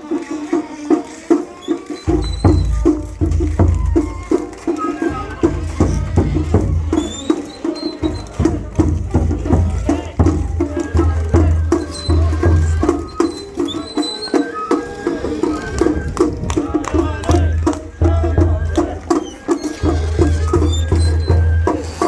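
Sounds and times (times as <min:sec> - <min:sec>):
drums in quick rhythm: 0:00.0 - 0:22.0.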